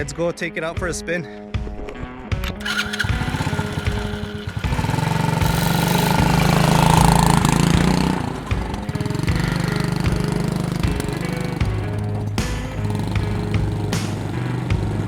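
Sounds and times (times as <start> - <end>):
small quad bike engine revving: 2.5 - 15.0.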